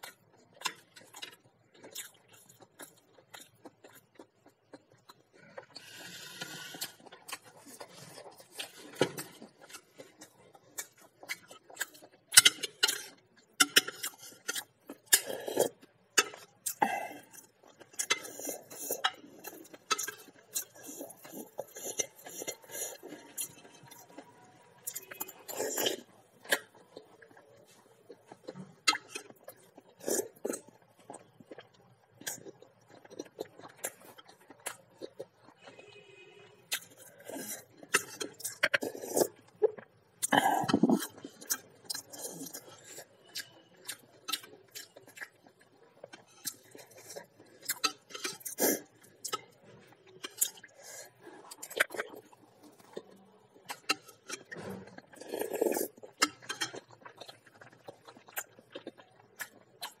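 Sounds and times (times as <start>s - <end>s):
person chewing: 0.0s - 60.0s.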